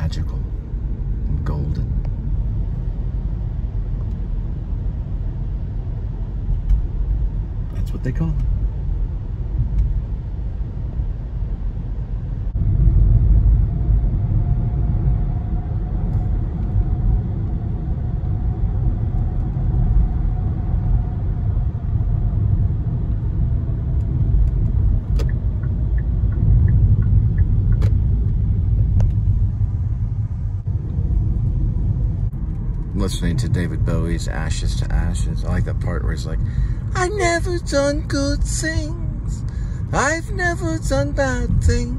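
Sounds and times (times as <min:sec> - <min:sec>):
car road rumble: 0:00.0 - 0:41.9
faint whine: 0:00.0 - 0:41.9.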